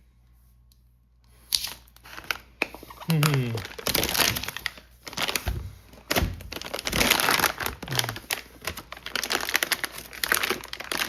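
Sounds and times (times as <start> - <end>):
plastic packaging crinkling: 1.5 - 11.0.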